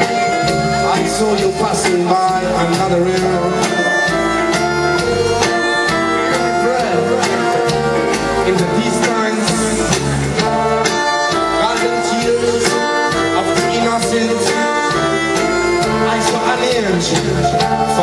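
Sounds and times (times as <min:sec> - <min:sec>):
accordion: 0:00.0 - 0:18.0
brass: 0:00.0 - 0:18.0
drum kit: 0:00.0 - 0:18.0
electric bass: 0:00.0 - 0:18.0.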